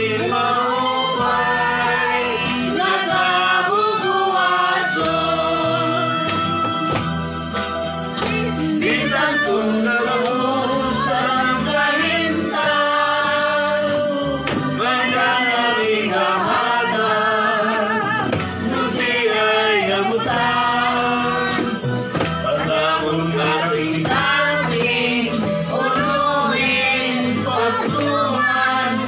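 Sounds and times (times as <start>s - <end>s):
group singing with music: 0.0s - 29.0s.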